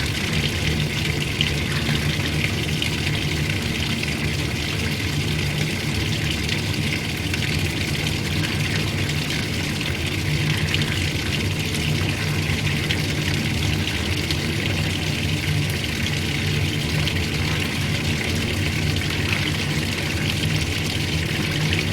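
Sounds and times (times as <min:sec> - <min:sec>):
washing machine motor hum: 0:00.0 - 0:21.9
water rushing: 0:00.0 - 0:21.9.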